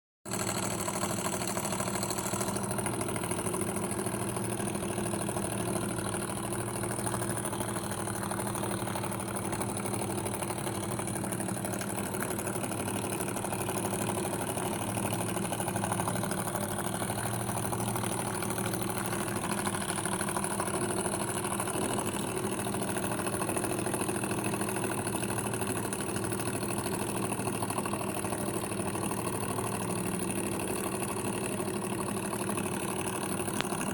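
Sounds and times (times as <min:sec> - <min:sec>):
constant engine hum: 0:00.2 - 0:33.9
model engine mechanical clatter: 0:00.3 - 0:33.9.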